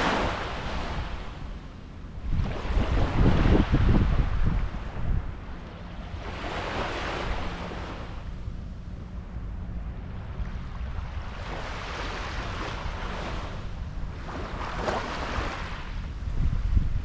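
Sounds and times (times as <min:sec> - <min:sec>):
waves washing on sandy beach: 0:00.0 - 0:01.6, 0:02.2 - 0:08.4, 0:09.6 - 0:17.0
wind rumble on microphone: 0:00.0 - 0:17.0.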